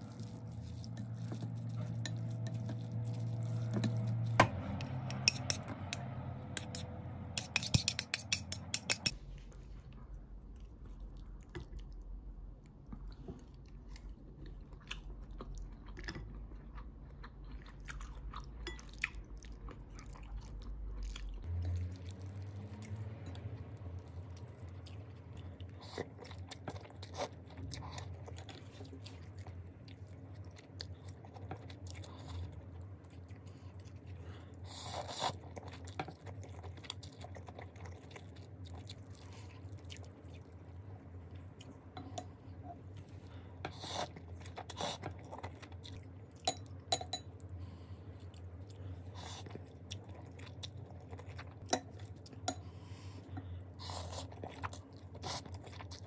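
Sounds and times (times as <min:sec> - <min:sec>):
person chewing noodles: 0:00.0 - 0:56.0.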